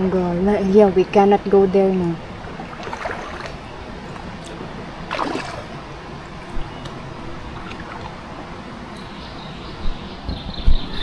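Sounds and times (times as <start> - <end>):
river water rushing: 0.0 - 10.2
water splashes: 0.0 - 11.0.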